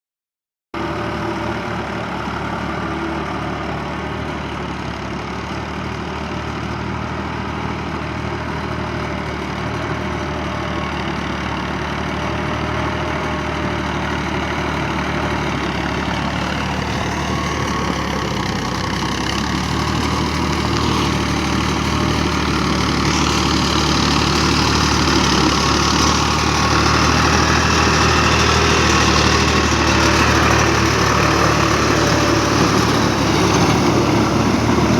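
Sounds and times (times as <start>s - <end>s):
tractor diesel engine running: 0.8s - 34.9s.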